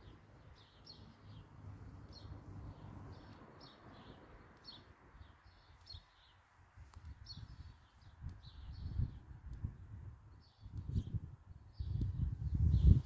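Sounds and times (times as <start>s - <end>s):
small bird chirping: 0.0s - 9.7s, 10.3s - 13.0s.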